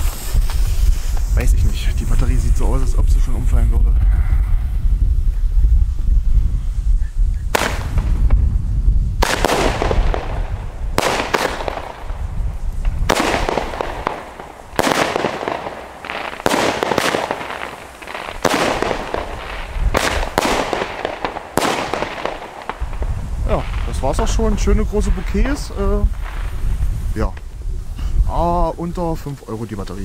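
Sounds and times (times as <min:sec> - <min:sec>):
firework bangs: 0:00.0 - 0:03.9, 0:07.5 - 0:27.8.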